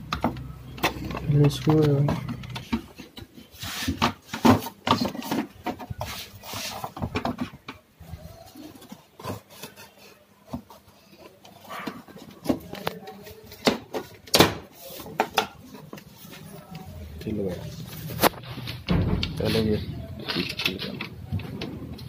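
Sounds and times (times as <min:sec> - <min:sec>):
plastic parts rubbing and knocking: 0:00.0 - 0:16.6, 0:17.2 - 0:22.0.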